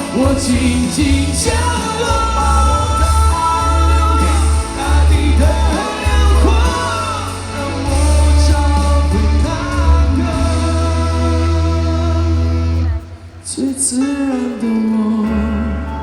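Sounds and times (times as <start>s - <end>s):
heavy bass: 0.0s - 14.4s
live pop-rock band playing: 0.0s - 16.0s
person singing: 0.0s - 16.0s.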